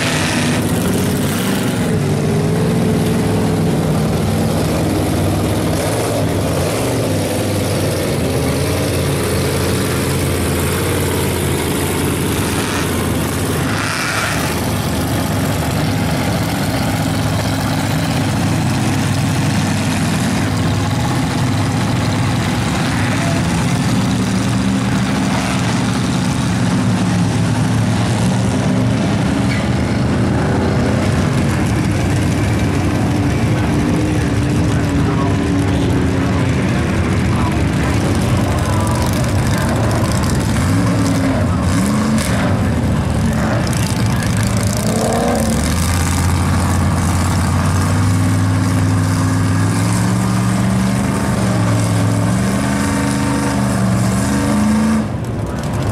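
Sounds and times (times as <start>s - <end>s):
truck engines idling: 0.0s - 55.9s.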